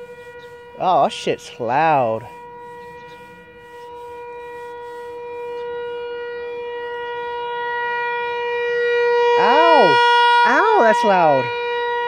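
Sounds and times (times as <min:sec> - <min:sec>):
warning siren steady tone: 0:00.0 - 0:12.0.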